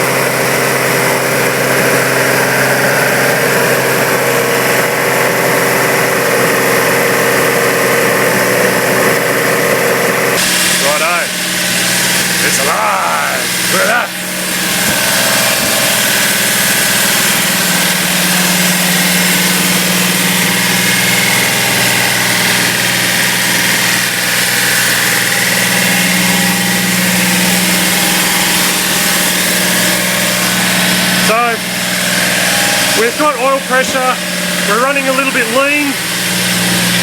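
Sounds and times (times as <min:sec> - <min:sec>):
race car engine running: 0:00.0 - 0:37.0.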